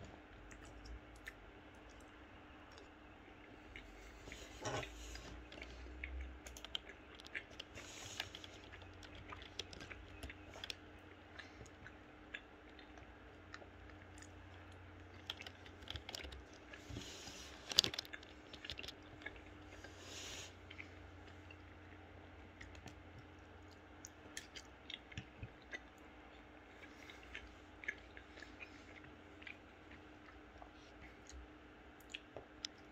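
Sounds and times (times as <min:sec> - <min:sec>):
chewing and wet mouth sounds: 0:00.0 - 0:32.9.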